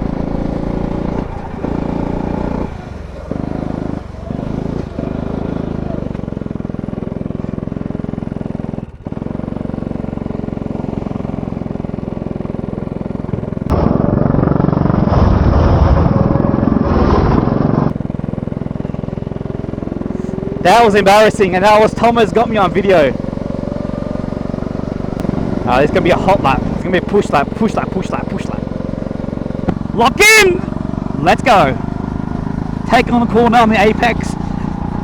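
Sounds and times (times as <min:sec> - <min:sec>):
go-kart engine running: 0:00.0 - 0:35.0.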